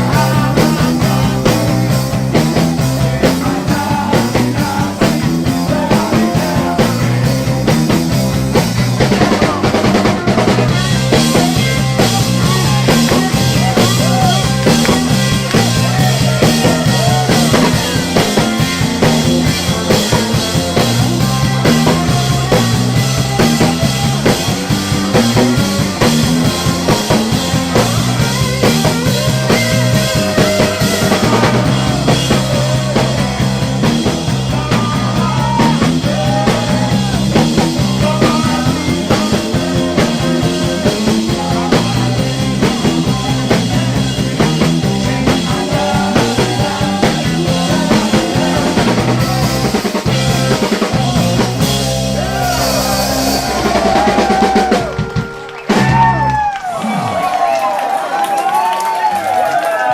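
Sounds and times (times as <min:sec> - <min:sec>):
live rock band playing: 0:00.0 - 0:57.7.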